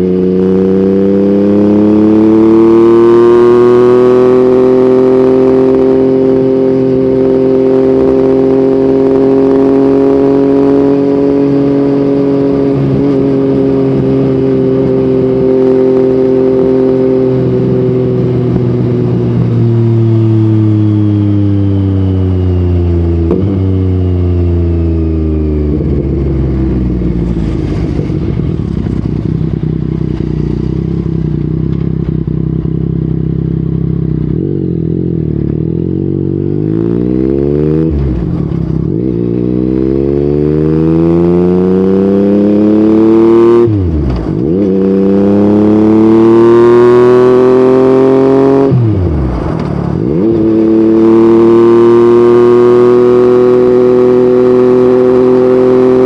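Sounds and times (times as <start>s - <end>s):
motorcycle engine revving and upshifting: 0.0s - 56.0s.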